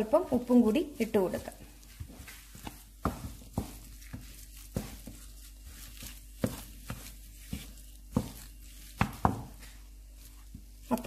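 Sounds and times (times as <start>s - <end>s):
wooden spatula scraping a pan: 0.0s - 11.0s.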